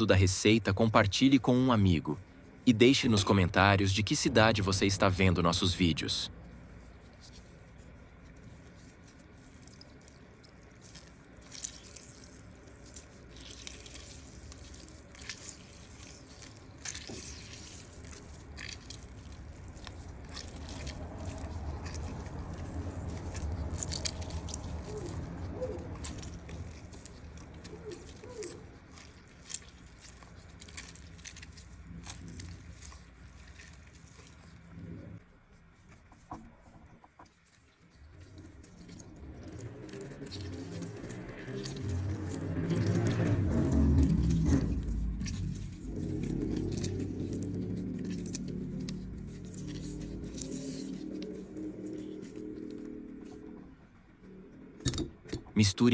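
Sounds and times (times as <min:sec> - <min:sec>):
juice dripping: 0:00.0 - 0:55.6.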